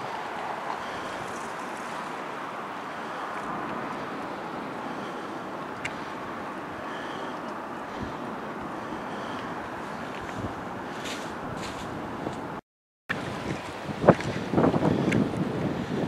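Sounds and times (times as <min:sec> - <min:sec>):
rushing background noise: 0:00.0 - 0:16.0.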